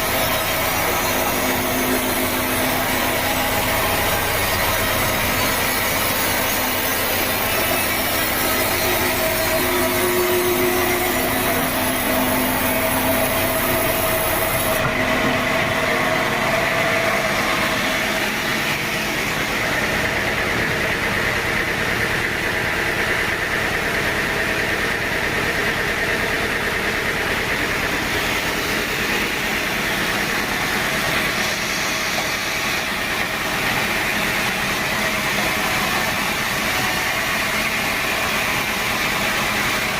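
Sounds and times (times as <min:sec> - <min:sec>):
sawmill saw cutting log: 0:00.0 - 0:23.8, 0:25.8 - 0:39.9.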